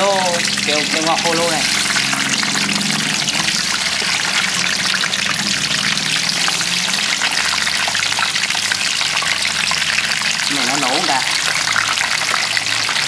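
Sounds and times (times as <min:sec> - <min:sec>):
hot oil sizzling and bubbling: 0:00.0 - 0:13.0.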